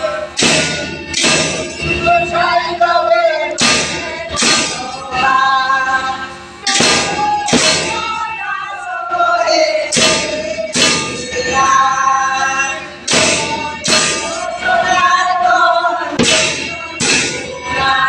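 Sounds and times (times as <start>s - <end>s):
hand cymbals crashing: 0.0s - 5.3s, 6.4s - 8.9s, 9.5s - 15.2s, 16.1s - 18.0s
group singing a hymn: 0.0s - 18.0s.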